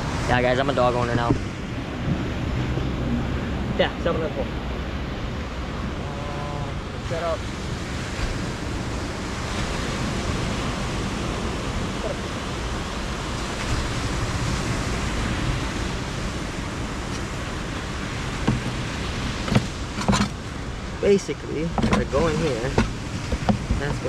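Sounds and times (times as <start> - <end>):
ocean surf washing: 0.0 - 24.0.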